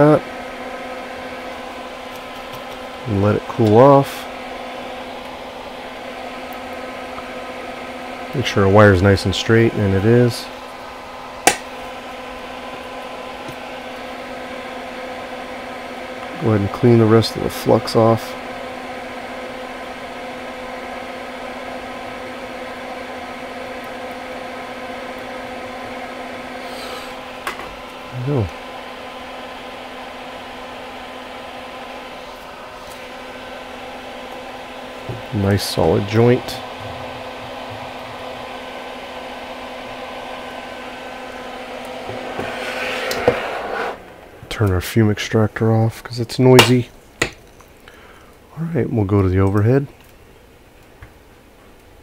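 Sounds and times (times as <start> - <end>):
extractor fan whirring: 0.0 - 52.0.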